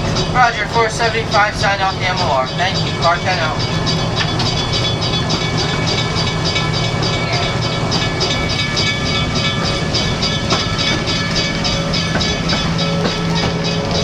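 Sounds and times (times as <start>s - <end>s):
train rumble and rhythmic clatter: 0.0s - 14.0s.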